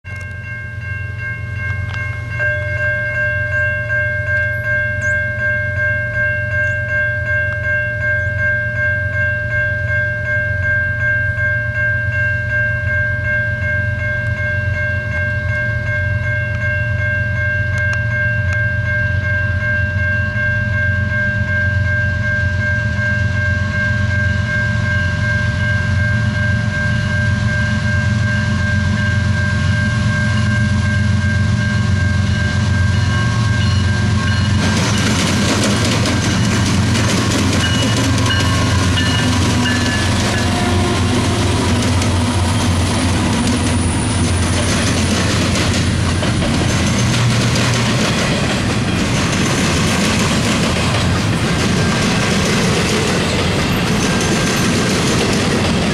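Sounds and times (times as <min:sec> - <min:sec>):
crossing warning bell ringing: 0:00.0 - 0:55.9
freight locomotive rumble: 0:00.1 - 0:55.9.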